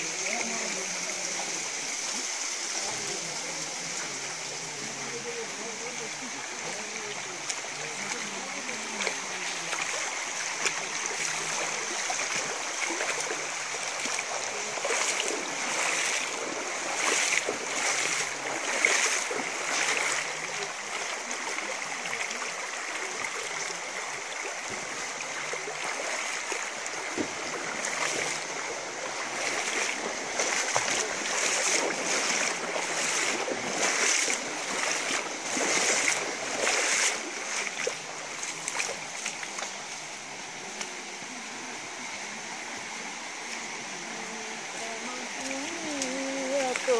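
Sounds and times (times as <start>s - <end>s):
insect chorus: 0.0s - 46.9s
running water: 0.0s - 46.9s.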